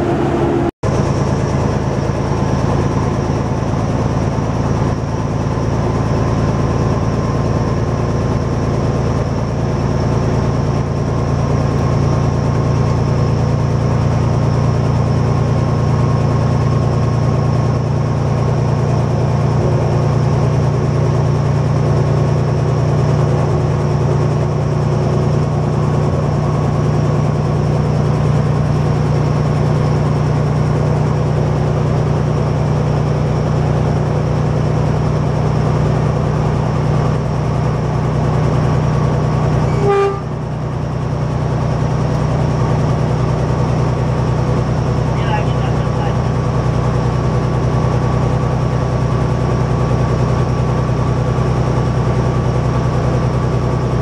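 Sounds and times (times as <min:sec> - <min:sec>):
diesel engine drone: 0:00.0 - 0:54.0.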